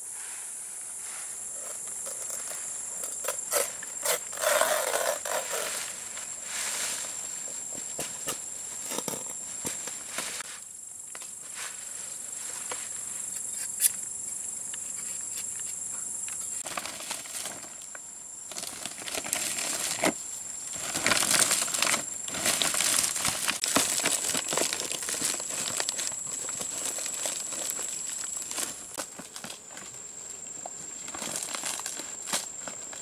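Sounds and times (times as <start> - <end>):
palm leaves rustling and crackling: 1.0 - 13.3, 16.5 - 33.0.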